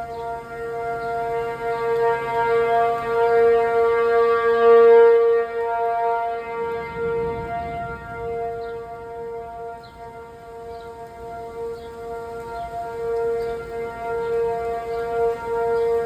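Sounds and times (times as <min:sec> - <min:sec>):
outdoor warning siren: 0:00.0 - 0:16.0.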